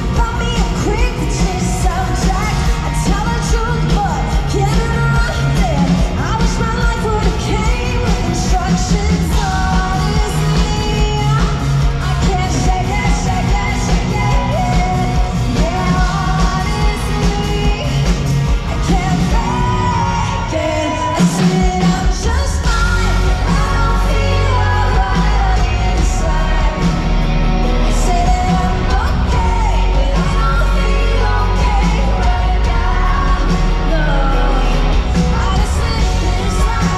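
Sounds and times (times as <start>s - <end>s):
live rock band: 0.0s - 36.9s
woman singing: 0.0s - 36.9s.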